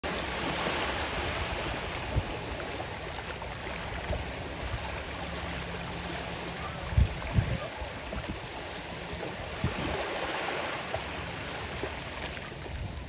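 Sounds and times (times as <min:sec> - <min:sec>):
small waves lapping on shore: 0:00.0 - 0:13.0.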